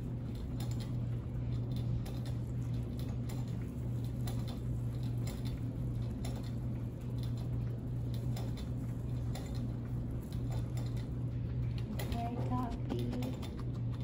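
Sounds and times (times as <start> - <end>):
guinea pigs chewing hay: 0.0 - 14.0
steady low hum: 0.0 - 14.0.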